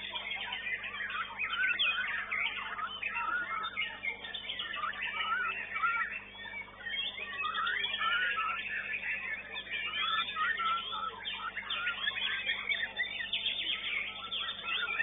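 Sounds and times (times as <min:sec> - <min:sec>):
faint steady hum: 0:00.0 - 0:15.0
songbirds singing in chorus: 0:00.0 - 0:15.0.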